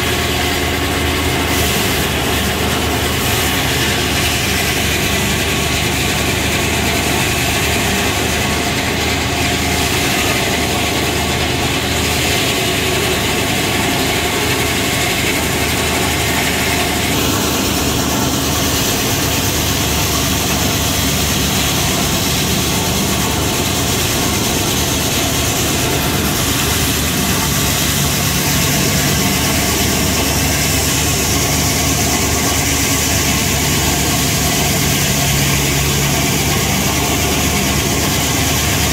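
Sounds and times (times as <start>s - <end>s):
sawmill blade running: 0.0s - 38.9s.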